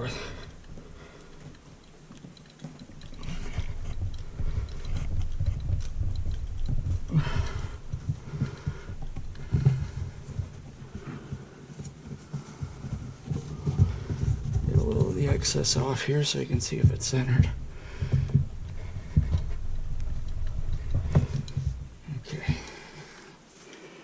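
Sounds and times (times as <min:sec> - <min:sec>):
low thumps and knocks: 0:00.0 - 0:23.2.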